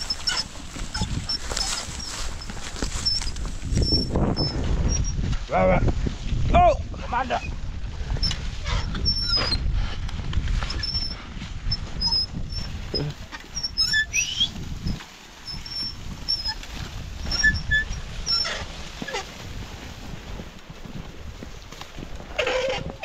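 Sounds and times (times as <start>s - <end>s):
plough scraping through stalks: 0.0s - 5.3s, 7.2s - 23.0s.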